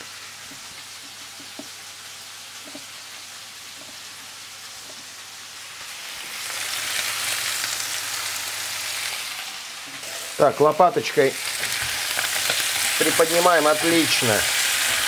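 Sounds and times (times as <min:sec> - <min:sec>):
meat sizzling in butter: 0:00.0 - 0:15.0.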